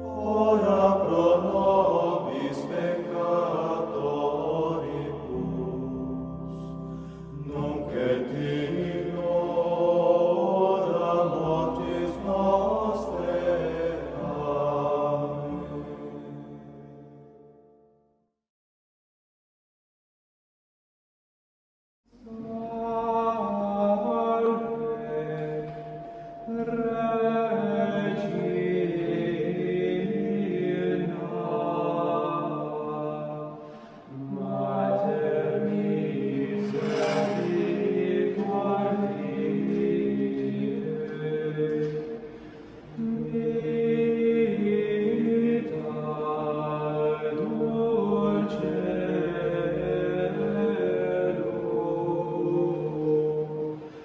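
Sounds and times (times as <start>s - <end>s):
slow chanted vocal music: 0.0s - 17.7s, 22.1s - 54.0s.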